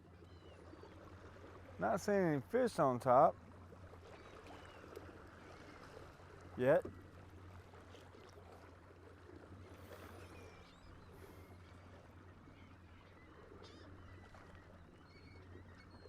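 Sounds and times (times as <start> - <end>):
water lapping on kayak hull: 0.0 - 16.0.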